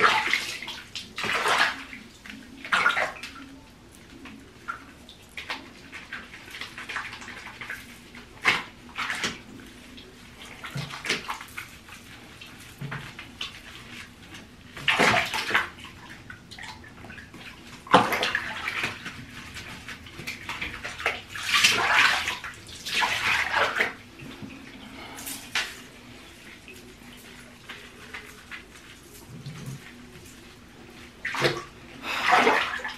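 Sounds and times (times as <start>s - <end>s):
water splashing in bathtub: 0.0s - 32.9s.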